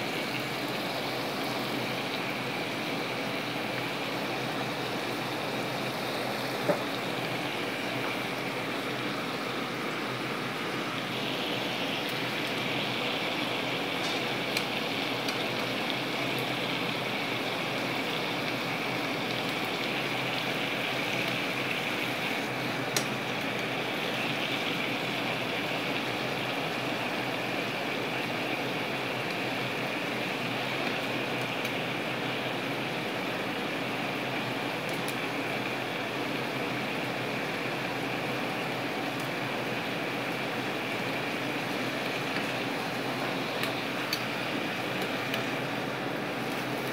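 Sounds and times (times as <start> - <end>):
fish sizzling in a frying pan: 0.0 - 46.9.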